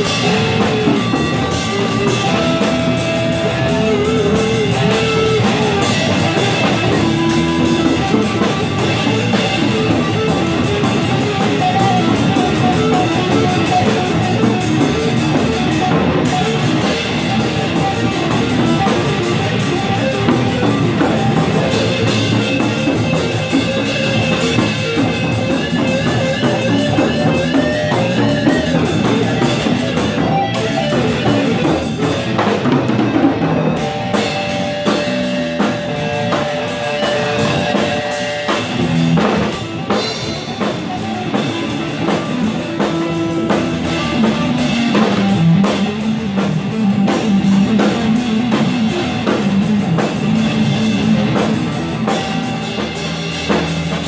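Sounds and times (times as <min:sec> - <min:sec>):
drum kit playing: 0:00.0 - 0:54.0
electric guitar playing: 0:00.0 - 0:54.0.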